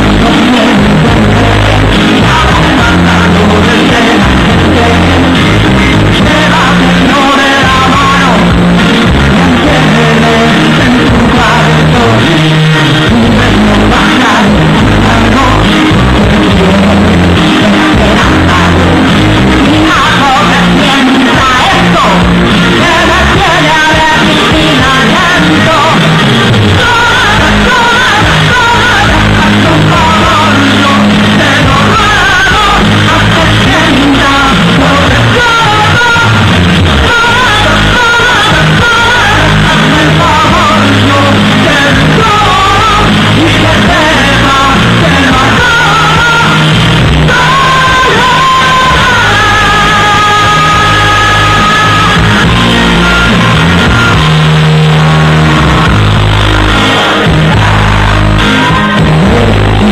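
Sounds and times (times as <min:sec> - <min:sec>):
woman singing into a microphone: 0:00.0 - 0:54.3
live pop-rock band: 0:00.0 - 0:59.9.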